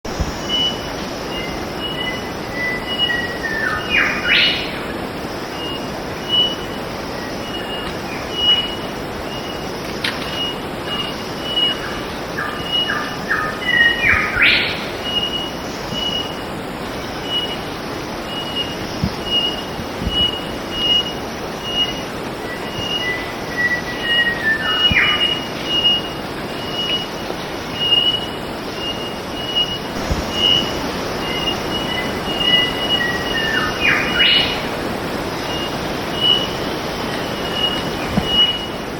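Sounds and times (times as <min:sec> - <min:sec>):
background hiss: 0:00.1 - 0:38.9.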